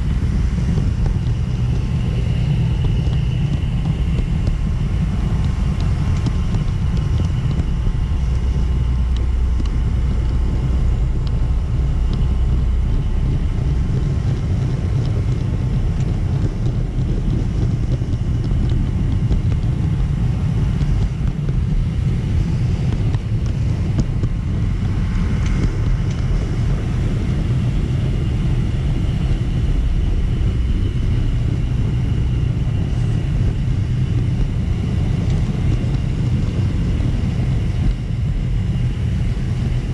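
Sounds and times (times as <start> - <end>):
high motor whine: 0.0 - 39.9
model train wheels and motor rumble: 0.0 - 39.9.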